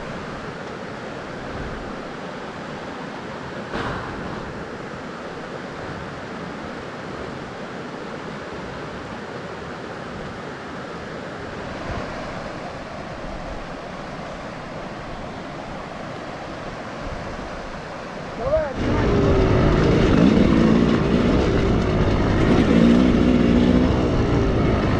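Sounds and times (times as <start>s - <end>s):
steady rushing noise: 0.0s - 24.9s.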